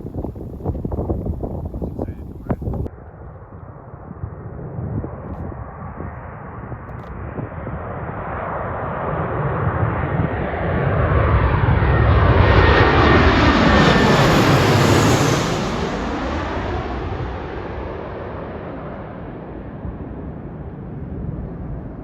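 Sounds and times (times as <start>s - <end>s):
airliner passing: 0.0s - 22.0s.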